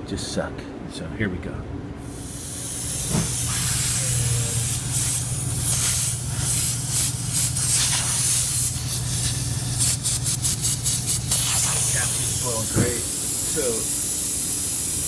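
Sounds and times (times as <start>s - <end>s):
gas hissing through a tube: 2.0s - 15.0s.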